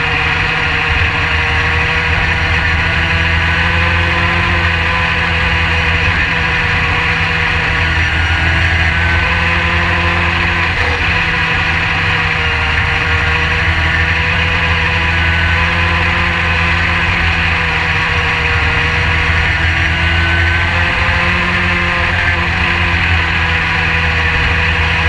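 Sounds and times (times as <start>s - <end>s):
race car engine running hard: 0.0s - 25.0s.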